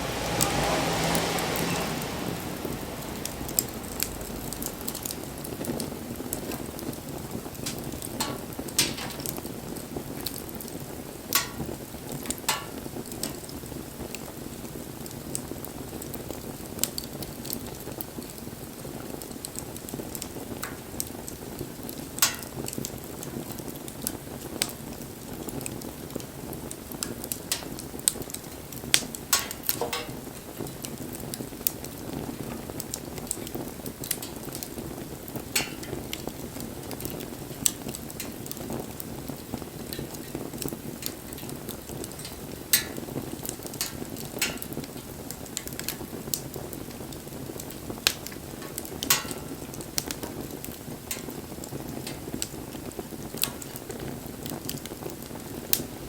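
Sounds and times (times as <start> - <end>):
campfire crackling: 0.0 - 56.0
loud snaps of fire: 0.0 - 56.0.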